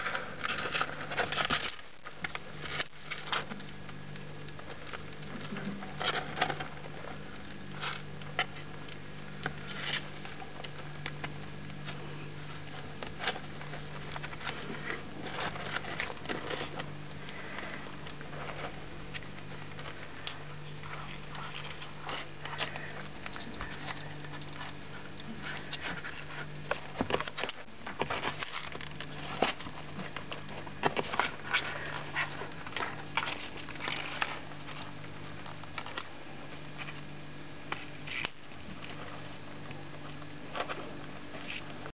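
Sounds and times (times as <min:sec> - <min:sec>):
kitten paws scratching and rustling: 0:00.0 - 0:41.9
steady low hum: 0:00.0 - 0:41.9.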